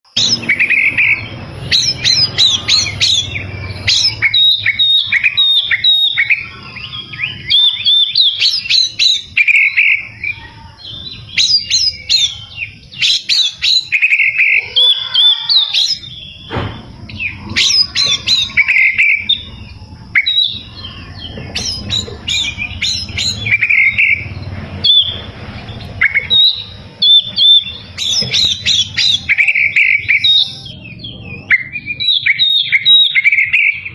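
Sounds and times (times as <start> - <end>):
bird singing whistled phrases: 0.1 - 33.9.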